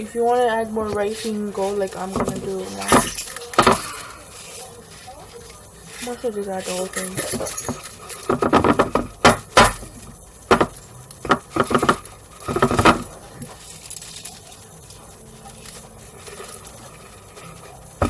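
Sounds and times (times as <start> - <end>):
dry rice rattling in container: 0.0 - 18.0.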